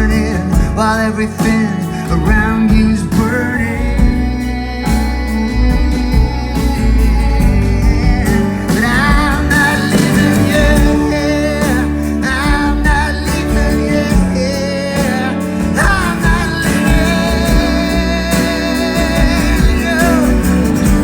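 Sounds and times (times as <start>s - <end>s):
live band music with singing: 0.0s - 21.0s
steady bass: 0.0s - 21.0s.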